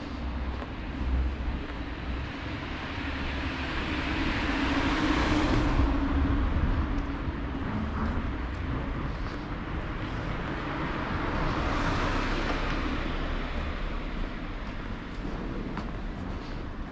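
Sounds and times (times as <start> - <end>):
low traffic rumble: 0.0 - 16.9
vehicle passing: 2.8 - 16.8.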